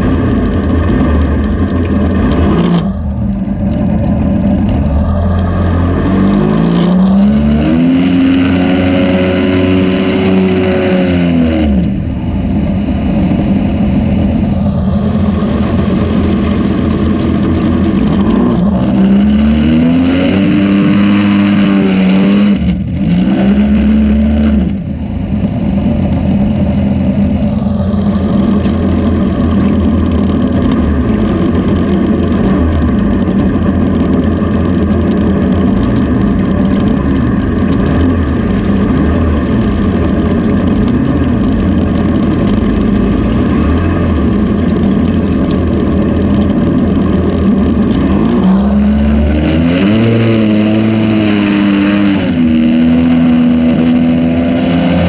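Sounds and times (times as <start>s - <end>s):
jet boat motor running: 0.0s - 55.0s.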